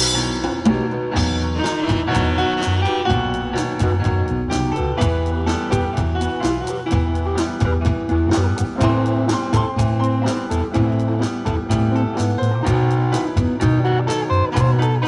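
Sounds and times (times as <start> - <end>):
drum kit steady beat: 0.0 - 15.0
live band playing: 0.0 - 15.0.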